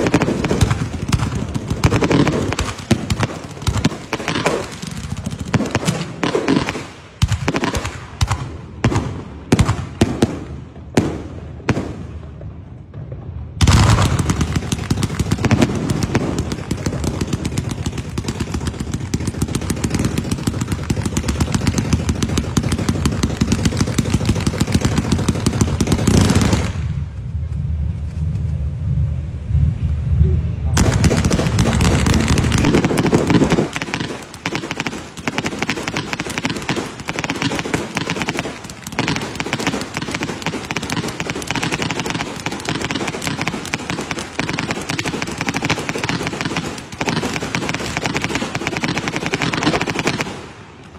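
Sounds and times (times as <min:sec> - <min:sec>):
fireworks bangs: 0:00.0 - 0:28.7, 0:30.7 - 0:50.9
fireworks crackling: 0:00.0 - 0:28.8, 0:30.8 - 0:50.9.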